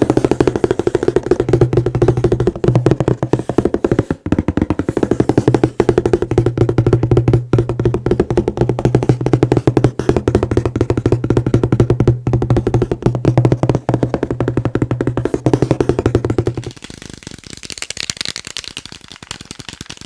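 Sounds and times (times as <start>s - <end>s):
fast tapping on hollow object: 0.0s - 16.9s.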